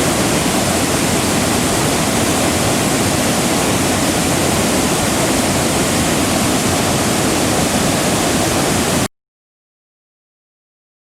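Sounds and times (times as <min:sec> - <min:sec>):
waterfall rushing over rocks: 0:00.0 - 0:09.1.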